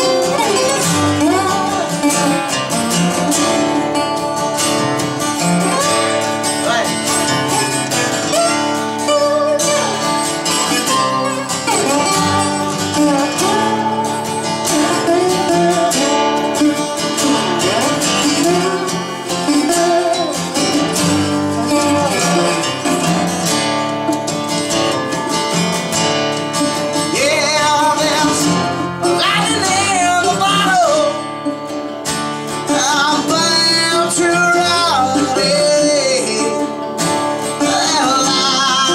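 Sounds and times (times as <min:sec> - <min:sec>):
person singing: 0:00.0 - 0:24.2, 0:26.6 - 0:31.8, 0:32.5 - 0:38.9
resonator guitar picking: 0:00.0 - 0:38.9
strummed acoustic guitar: 0:00.0 - 0:38.9.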